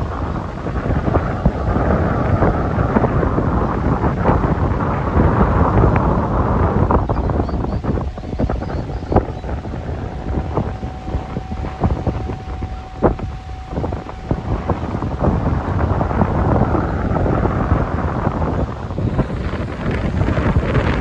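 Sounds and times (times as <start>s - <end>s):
thin steady tone: 0.0s - 21.0s
wind buffeting microphone: 0.0s - 21.0s.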